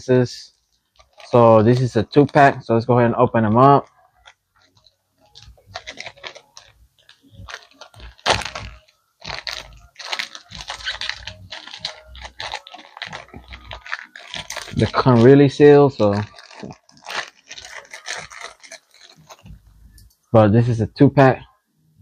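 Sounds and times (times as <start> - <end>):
packaging crinkling and crackling: 0.4 - 2.7, 3.3 - 19.8.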